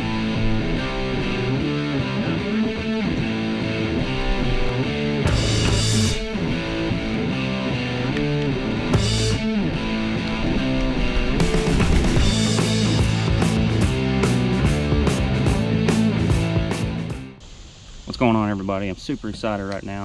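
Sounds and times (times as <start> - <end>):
electric guitar rock music: 0.0 - 17.4.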